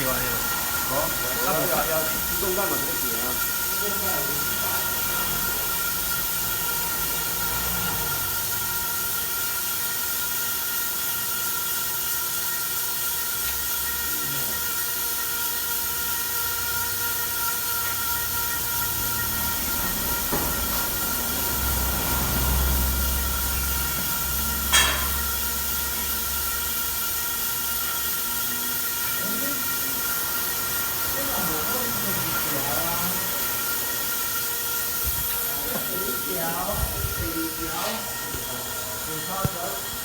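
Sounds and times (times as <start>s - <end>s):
bread-slicing machine whining: 0.0s - 10.2s, 10.8s - 40.0s.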